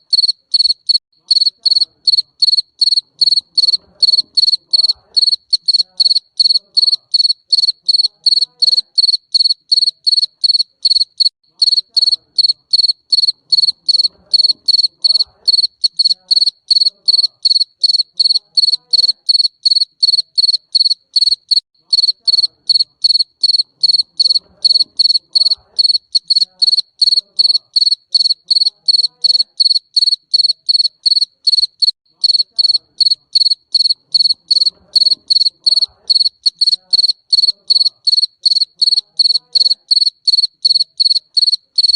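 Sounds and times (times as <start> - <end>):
cricket chirping: 0.0 - 41.9.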